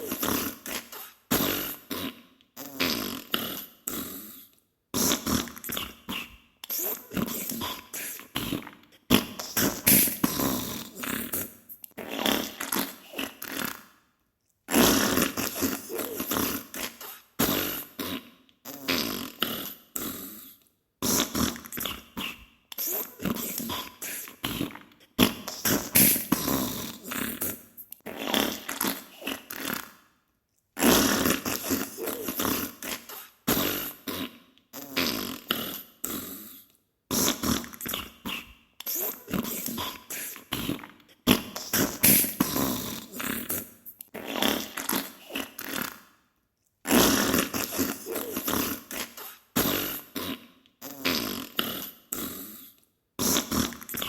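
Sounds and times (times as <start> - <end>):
loud fart noises: 0.0 - 4.4, 5.0 - 14.0, 14.7 - 20.4, 21.0 - 30.0, 30.8 - 36.5, 37.1 - 46.2, 46.8 - 54.0.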